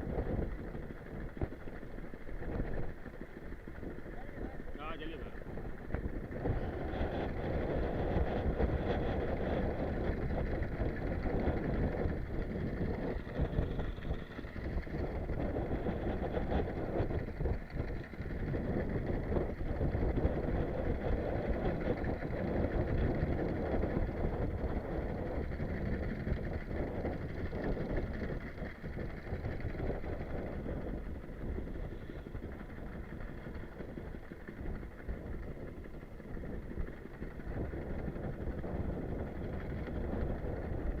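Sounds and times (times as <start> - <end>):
boat engine running: 0.0 - 41.0
strong wind buffeting microphone: 0.0 - 41.0.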